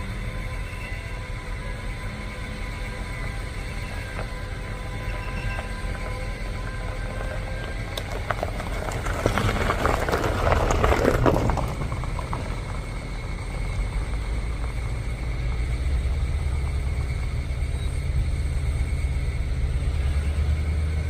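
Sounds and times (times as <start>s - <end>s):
locomotive engine rumbling: 0.0s - 21.0s.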